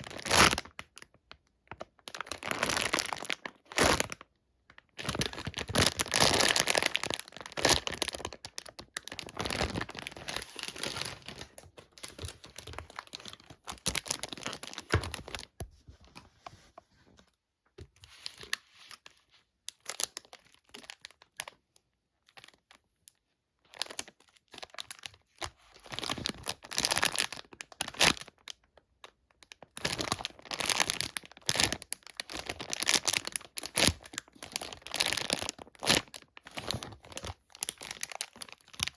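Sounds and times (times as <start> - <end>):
plastic packaging crinkling: 0.0 - 1.1, 1.7 - 4.2, 4.8 - 16.2, 18.0 - 21.6, 23.7 - 38.9.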